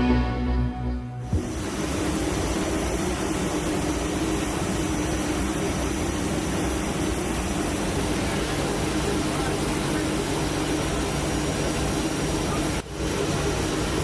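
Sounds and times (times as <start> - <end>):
aircraft engines running: 0.0 - 14.0
steady hum: 0.0 - 14.0.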